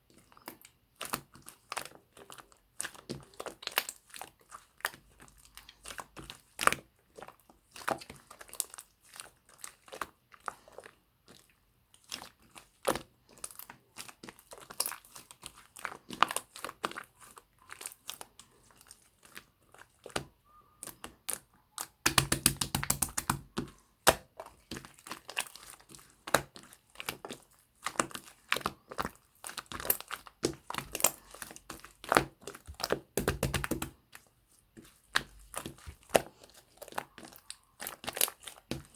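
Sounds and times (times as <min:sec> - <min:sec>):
slime with beads crunching: 0:00.1 - 0:38.9.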